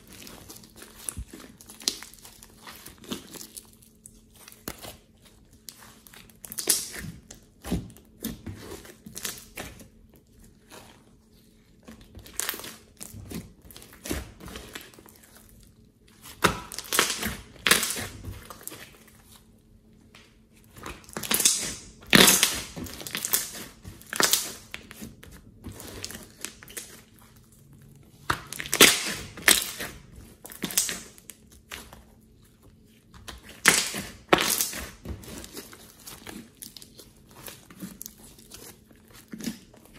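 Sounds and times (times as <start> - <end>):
slime crackling and popping: 0.0 - 9.9, 11.8 - 19.2, 20.7 - 32.1, 33.2 - 39.9.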